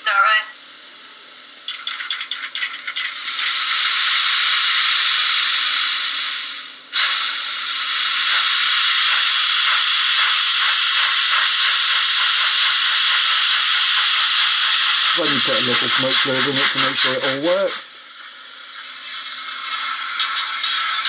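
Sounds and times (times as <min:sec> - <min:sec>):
steam hiss from small speaker: 0:03.0 - 0:21.0.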